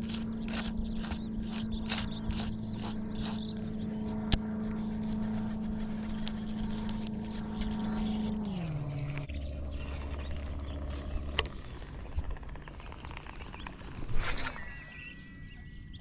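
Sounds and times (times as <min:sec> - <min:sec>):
motorboat engine running: 0:00.0 - 0:13.9.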